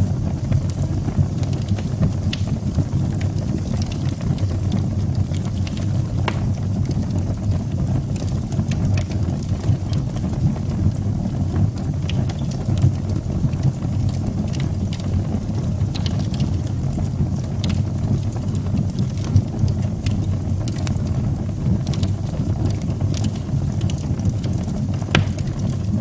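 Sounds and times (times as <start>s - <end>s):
fire crackling in a fireplace: 0.0s - 26.0s.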